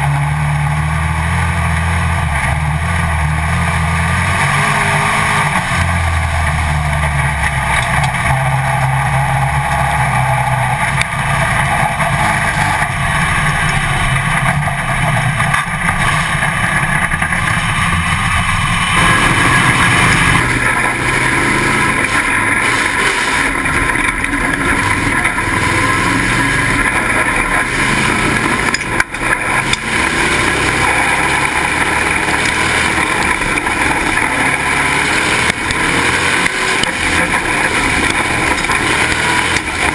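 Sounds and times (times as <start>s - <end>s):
stock car engine running: 0.0s - 39.9s.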